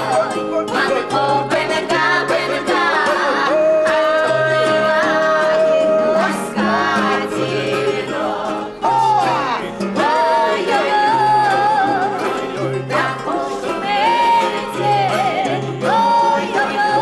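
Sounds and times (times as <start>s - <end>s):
plucked string accompaniment: 0.0s - 17.0s.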